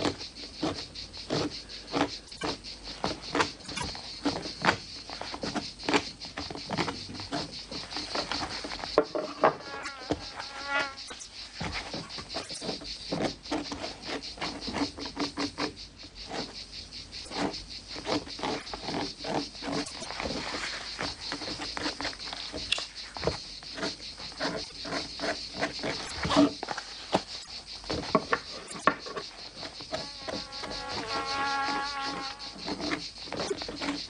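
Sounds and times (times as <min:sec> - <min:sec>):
insect chirring: 0:00.0 - 0:34.0.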